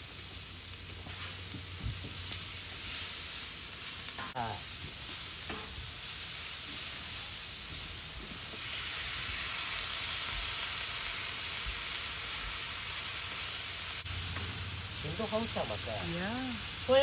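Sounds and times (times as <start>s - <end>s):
vegetables sizzling in frying pan: 0.0s - 17.0s.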